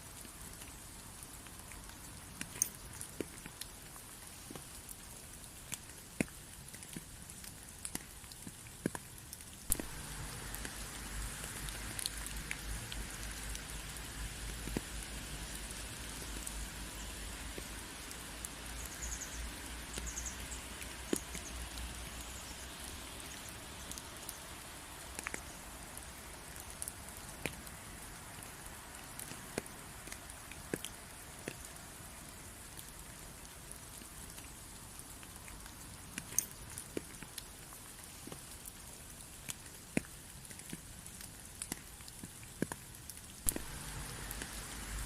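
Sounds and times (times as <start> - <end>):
raindrops ticking: 0.0 - 45.0
steady rain: 0.0 - 45.0.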